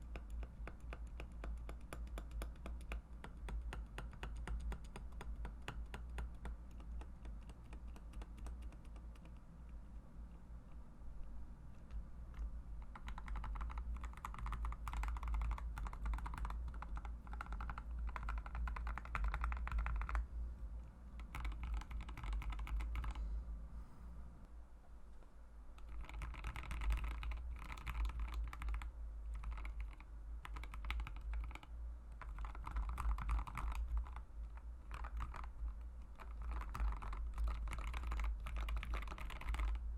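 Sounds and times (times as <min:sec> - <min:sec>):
typing on mechanical keyboard: 0:00.0 - 0:09.4, 0:11.8 - 0:20.3, 0:21.2 - 0:23.2, 0:25.8 - 0:39.8
steady low hum: 0:00.0 - 0:39.9.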